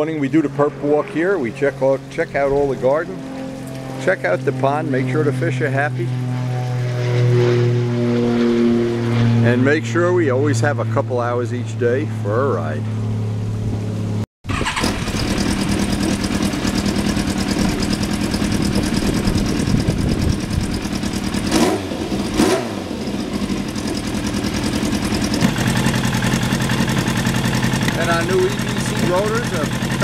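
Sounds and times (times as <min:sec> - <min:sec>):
motorcycle engine revving and idling: 0:00.0 - 0:30.0.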